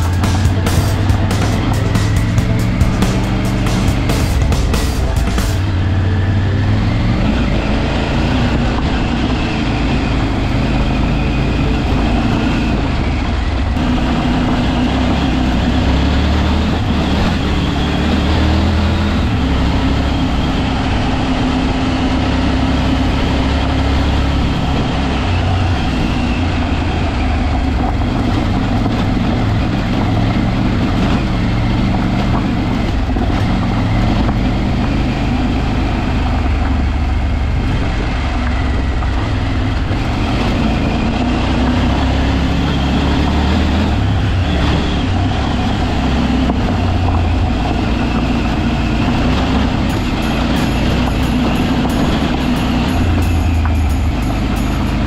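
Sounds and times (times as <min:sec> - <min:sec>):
road noise rumble: 0:00.0 - 0:55.0
vehicle engine revving: 0:00.0 - 0:55.0.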